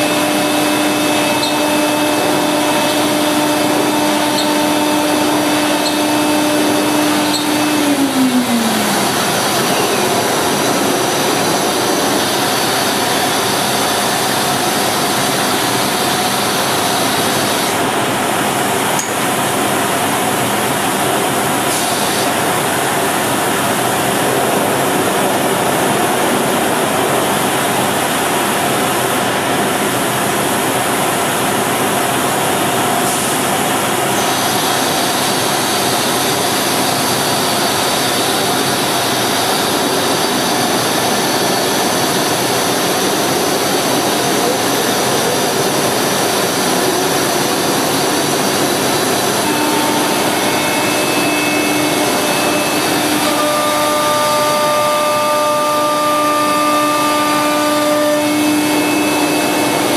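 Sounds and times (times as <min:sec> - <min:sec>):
cnc router rushing noise: 0:00.0 - 0:59.9
steady whining tones: 0:00.0 - 0:59.9.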